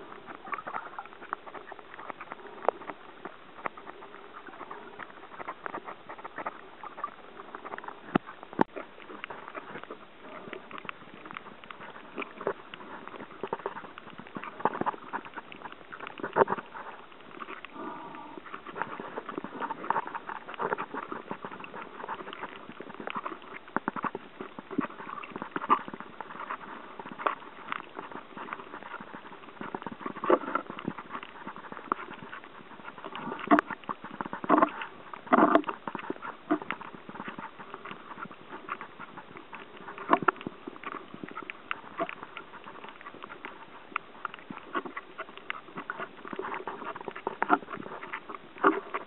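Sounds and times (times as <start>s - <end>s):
underwater crackling and clicking: 0.0s - 49.0s.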